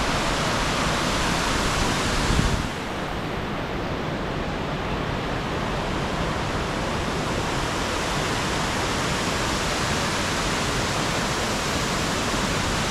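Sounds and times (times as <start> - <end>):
waterfall rushing and splashing: 0.0 - 12.9.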